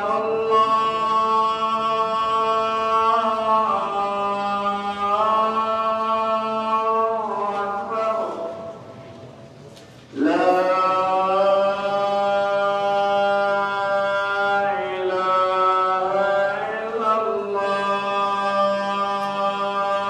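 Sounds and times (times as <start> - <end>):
man chanting: 0.0 - 9.0, 10.1 - 20.0.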